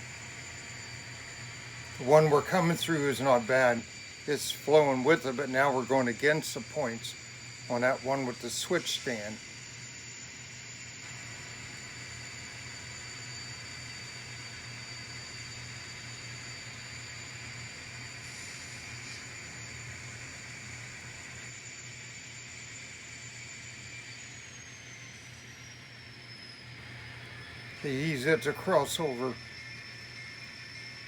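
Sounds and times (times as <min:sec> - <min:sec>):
model train running: 0:00.0 - 0:24.2, 0:25.6 - 0:31.0
faint high whine: 0:00.0 - 0:31.0.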